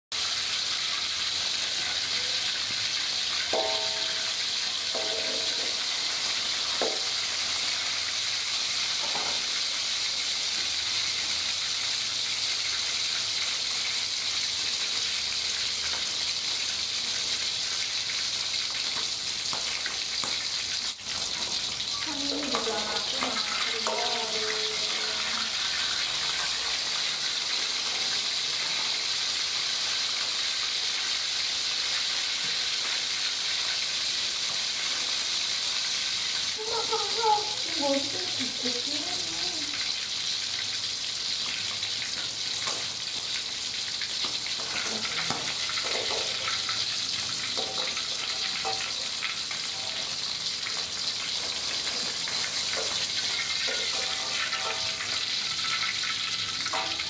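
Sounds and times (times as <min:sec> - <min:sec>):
chicken sizzling in hot oil: 0:00.1 - 0:57.0.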